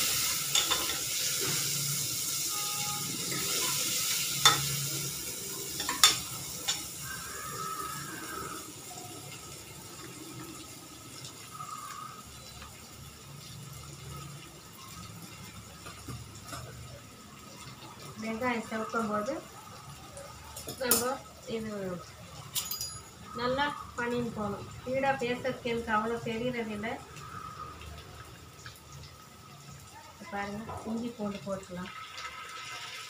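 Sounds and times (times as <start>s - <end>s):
onions sizzling in a pan: 0.0s - 33.0s.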